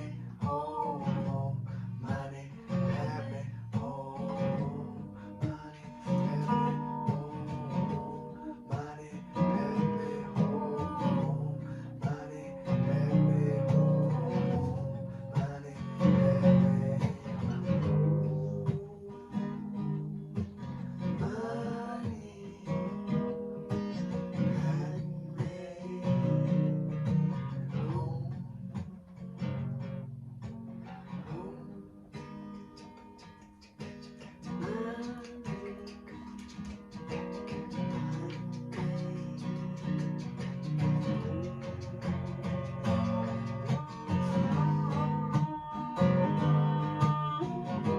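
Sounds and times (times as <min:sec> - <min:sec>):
acoustic guitar strumming chords: 0:00.0 - 0:47.9.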